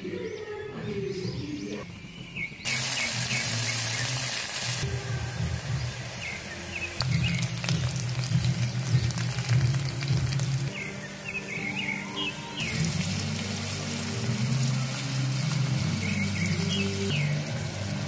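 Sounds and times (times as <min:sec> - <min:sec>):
onions sizzling in hot oil: 0:02.7 - 0:18.0.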